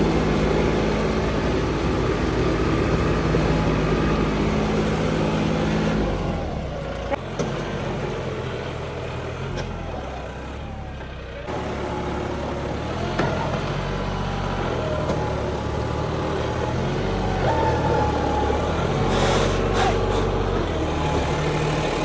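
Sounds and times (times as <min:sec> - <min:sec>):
diesel tractor engines droning: 0:00.0 - 0:22.0.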